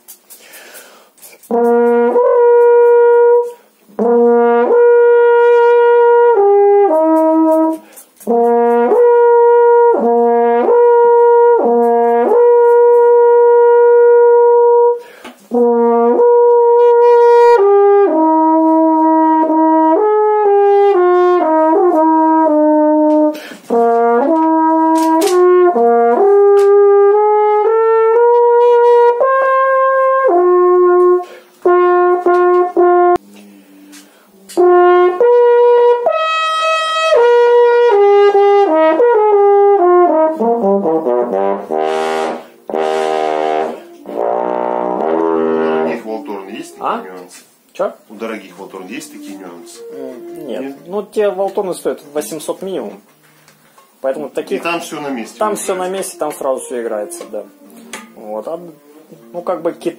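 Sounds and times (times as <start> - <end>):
french horn melody: 1.4 - 53.1, 54.0 - 59.9.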